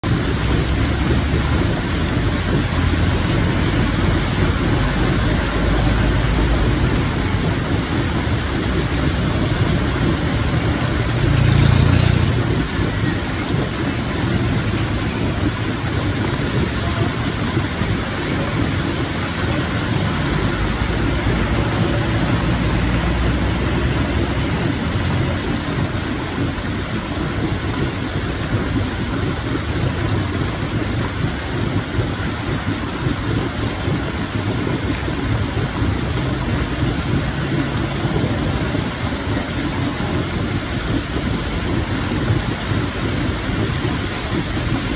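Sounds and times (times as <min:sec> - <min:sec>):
heavy rain falling: 0:00.0 - 0:44.9
water gushing from drain pipe: 0:00.0 - 0:44.9
water splashing on wet concrete: 0:00.0 - 0:44.9.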